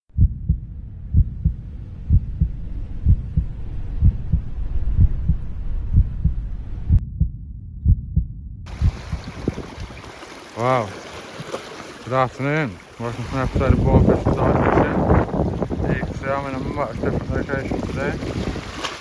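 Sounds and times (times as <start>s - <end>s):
heartbeat thumps: 0.1s - 10.1s, 13.3s - 18.8s.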